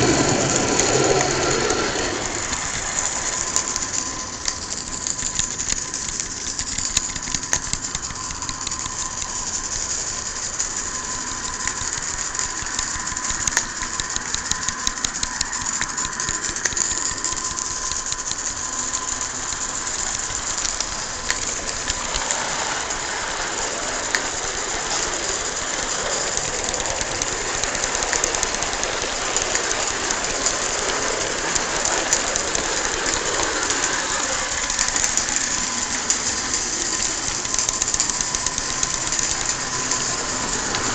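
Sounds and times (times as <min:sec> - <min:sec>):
steam hiss: 0:00.0 - 0:40.9
steam locomotive exhaust beats: 0:00.0 - 0:40.9.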